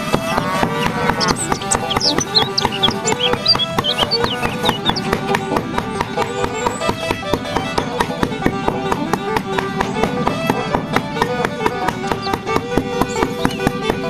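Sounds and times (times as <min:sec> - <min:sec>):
music with fast steady beat: 0:00.0 - 0:14.0.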